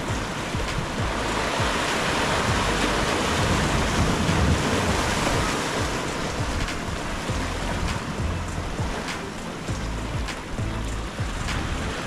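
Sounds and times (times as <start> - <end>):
water rushing: 0.0 - 12.0
wind buffeting microphone: 0.0 - 12.0.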